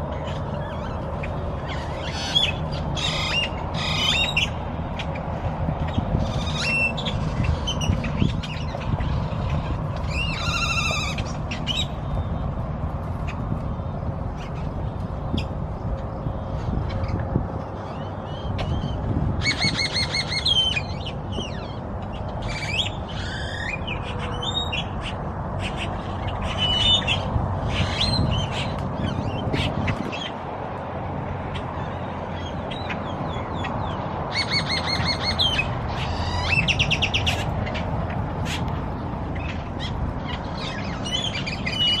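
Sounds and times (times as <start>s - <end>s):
birds squeaking and chattering: 0.0s - 42.0s.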